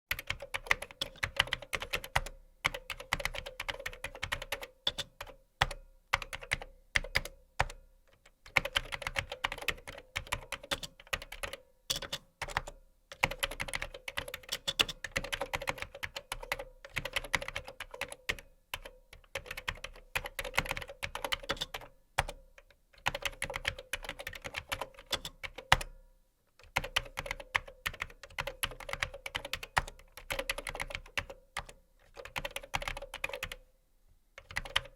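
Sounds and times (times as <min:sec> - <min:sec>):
typing on keyboard: 0:00.1 - 0:26.0, 0:26.6 - 0:33.6, 0:34.4 - 0:34.9.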